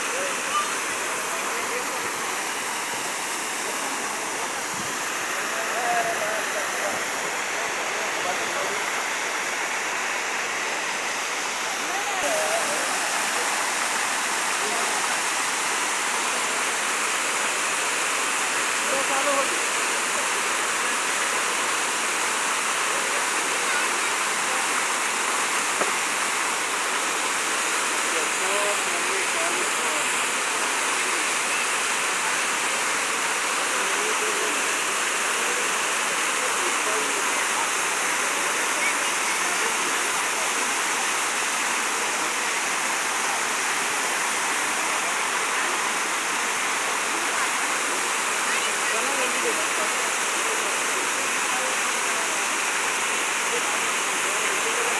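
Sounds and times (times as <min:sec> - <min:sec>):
waterfall splashing into pool: 0:00.0 - 0:54.9.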